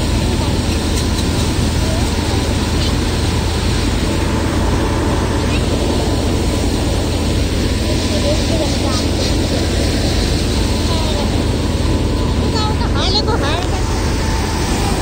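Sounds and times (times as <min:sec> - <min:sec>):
machine rushing noise: 0:00.0 - 0:15.0.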